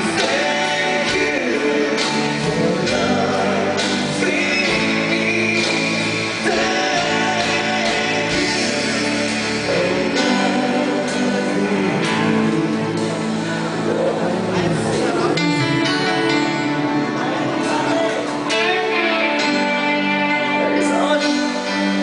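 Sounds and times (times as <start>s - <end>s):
drums: 0.0s - 22.0s
guitars: 0.0s - 22.0s.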